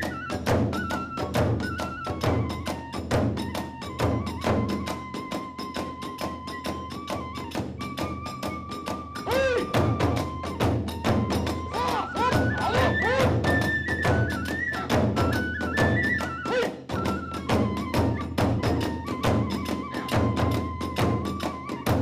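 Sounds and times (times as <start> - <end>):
bamboo flute melody: 0.0 - 22.0
fast drum beats: 0.0 - 22.0.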